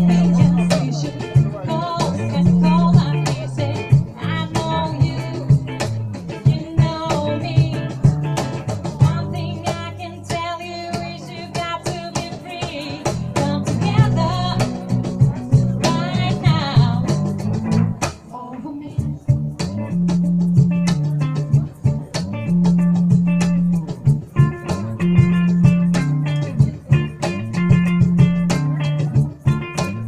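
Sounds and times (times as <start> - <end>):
bass guitar: 0.0 - 30.0
electric guitar: 0.0 - 30.0.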